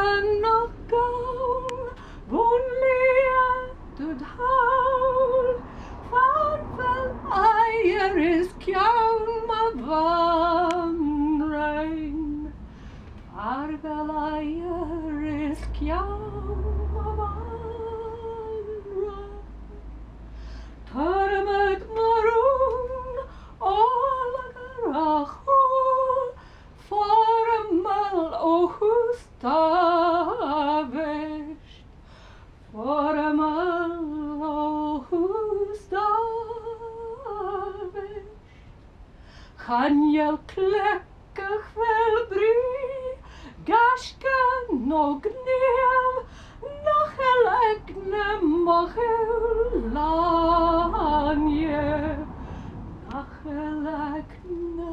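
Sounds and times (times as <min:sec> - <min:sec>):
woman singing unaccompanied: 0:00.0 - 0:12.6, 0:13.3 - 0:19.8, 0:20.8 - 0:31.8, 0:32.7 - 0:38.4, 0:39.5 - 0:52.4, 0:53.0 - 0:54.9.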